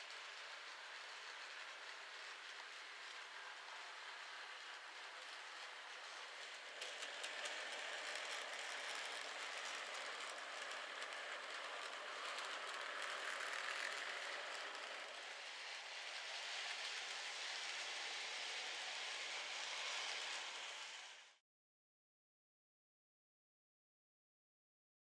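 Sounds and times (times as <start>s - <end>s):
model train motors whirring: 0.0s - 21.4s.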